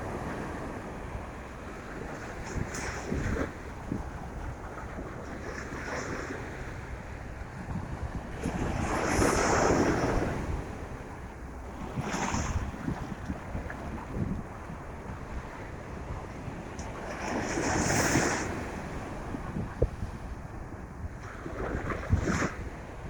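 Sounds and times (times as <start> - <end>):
ocean waves breaking: 0.0 - 23.0
wind buffeting microphone: 0.0 - 23.0.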